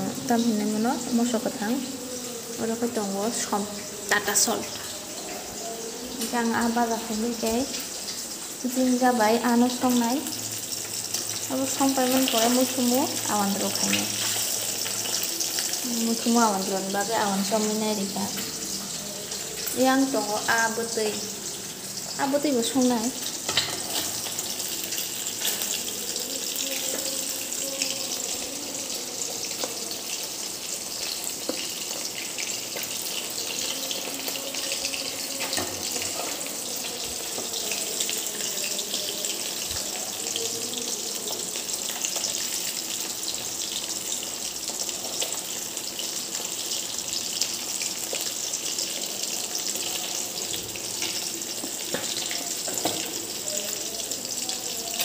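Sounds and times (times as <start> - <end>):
fish frying in oil: 0.0 - 55.0.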